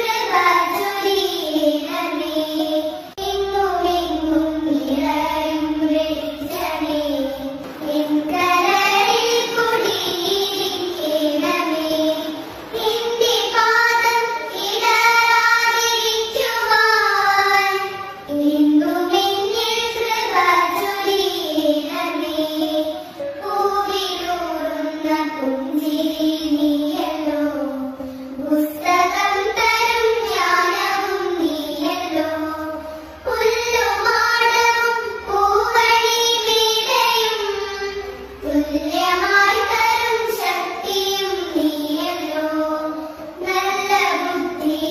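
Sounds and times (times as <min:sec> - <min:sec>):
child singing: 0:00.0 - 0:44.9.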